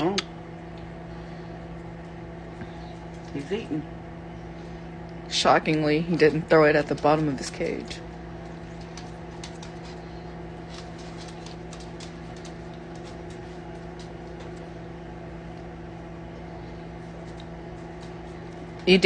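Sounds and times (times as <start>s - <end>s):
appliance or fan humming: 0.0s - 19.0s.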